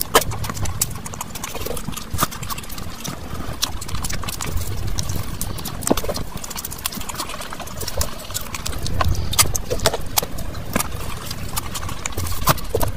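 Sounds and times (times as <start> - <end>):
chewing and lip smacking: 0.0 - 12.9
wet mouth clicks: 0.0 - 12.9.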